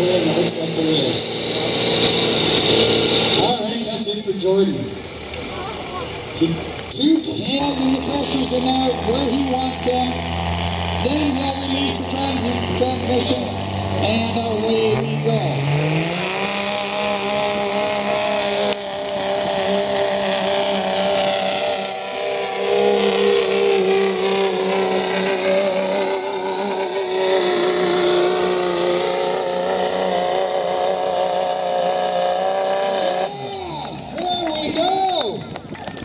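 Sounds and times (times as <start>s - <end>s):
diesel engine at full throttle: 0.0s - 36.0s.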